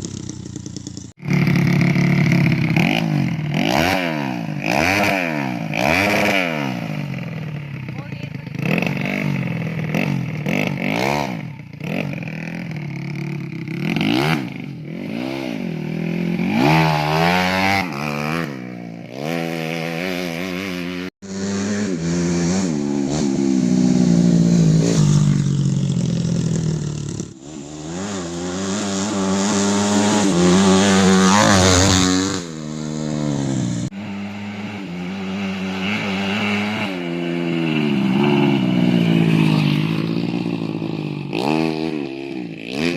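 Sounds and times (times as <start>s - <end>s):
moped engine revving hard: 0.0s - 42.9s.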